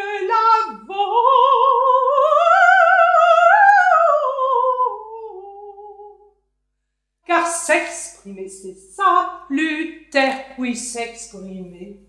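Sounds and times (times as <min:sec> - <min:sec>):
woman singing operatic vibrato: 0:00.0 - 0:06.4, 0:07.3 - 0:11.9.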